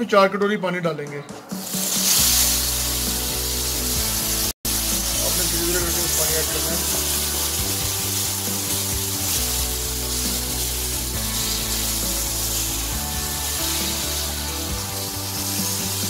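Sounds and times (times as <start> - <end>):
background music with held chords: 1.2 - 16.0
semolina sizzling and bubbling: 1.6 - 16.0.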